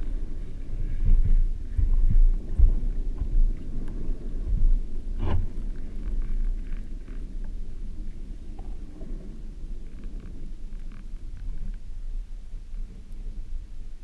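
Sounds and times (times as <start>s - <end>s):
faint ticks: 0.0s - 13.9s
muffled underwater surge rumble: 0.0s - 14.0s.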